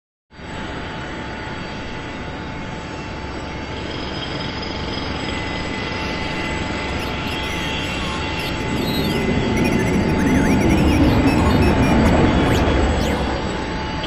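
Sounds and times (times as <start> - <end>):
faint high sweeping whines: 1.7 - 14.0
engine-like roar with whine: 2.1 - 14.0.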